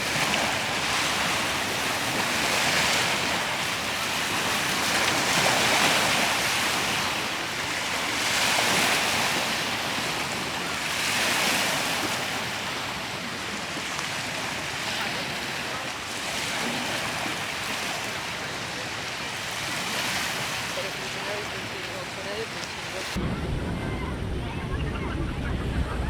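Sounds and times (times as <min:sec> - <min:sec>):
ocean waves washing onto beach: 0:00.0 - 0:26.0.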